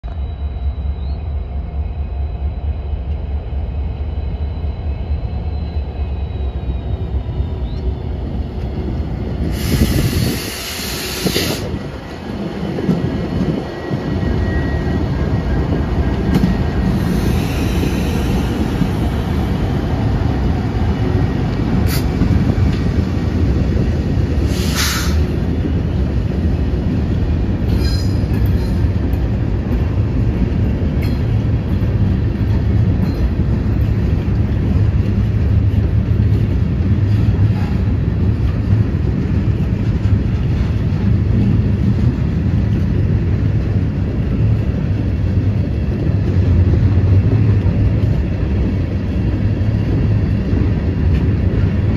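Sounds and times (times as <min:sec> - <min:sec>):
diesel locomotive rumbling past: 0:00.0 - 0:51.9.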